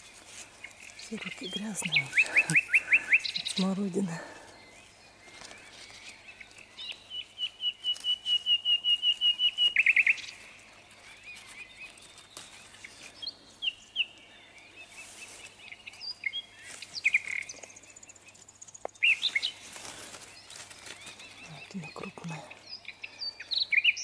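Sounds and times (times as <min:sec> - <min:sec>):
bird chirps: 0:00.0 - 0:24.0
songbird singing: 0:00.0 - 0:24.0.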